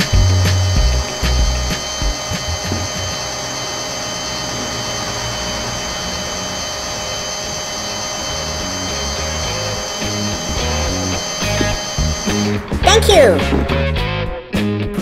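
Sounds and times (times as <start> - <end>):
toy electric motors whirring: 0.0 - 12.5.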